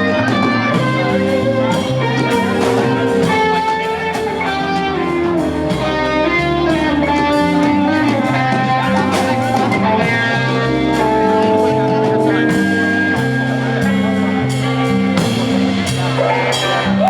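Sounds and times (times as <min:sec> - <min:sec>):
electric guitar: 0:00.0 - 0:17.0
live band playing: 0:00.0 - 0:17.0.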